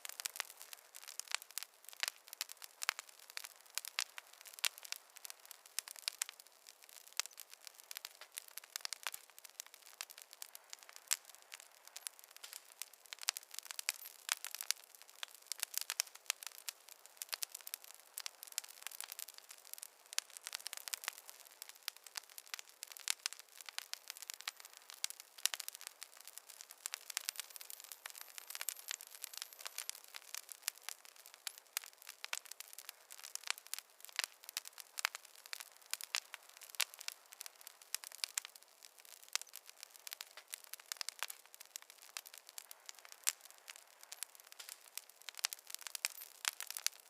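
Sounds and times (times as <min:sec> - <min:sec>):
faint steady hiss: 0:00.0 - 0:47.0
fire pops and snaps: 0:00.0 - 0:47.0
wood fire crackling: 0:00.0 - 0:47.0.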